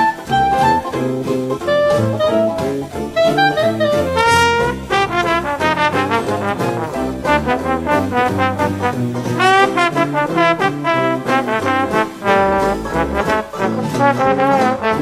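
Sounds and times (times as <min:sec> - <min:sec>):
instrumental jazz with brass horns: 0:00.0 - 0:15.0
quick rising horn run: 0:01.6 - 0:15.0.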